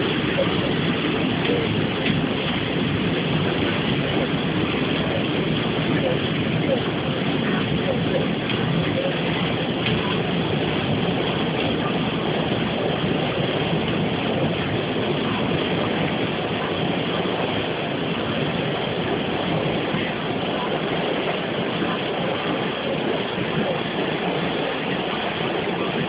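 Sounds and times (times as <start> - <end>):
water rushing and churning: 0.0 - 26.0.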